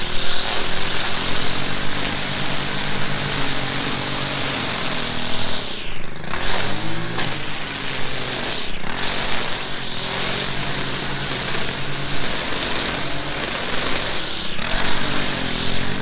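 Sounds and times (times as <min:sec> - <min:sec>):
string trimmer whining: 0:00.0 - 0:16.0.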